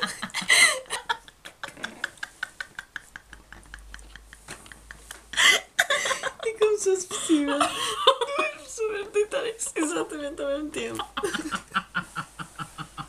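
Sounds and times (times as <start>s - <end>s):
women laughing: 0.0s - 9.2s, 10.8s - 13.0s.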